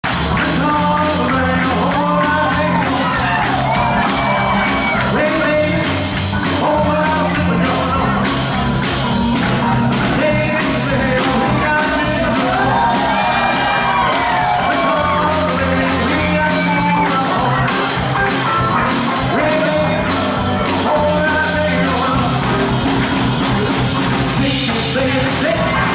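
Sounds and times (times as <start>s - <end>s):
drums and bass beat: 0.0s - 25.9s
live band playing: 0.0s - 25.9s
person singing: 0.1s - 22.8s, 23.5s - 25.9s.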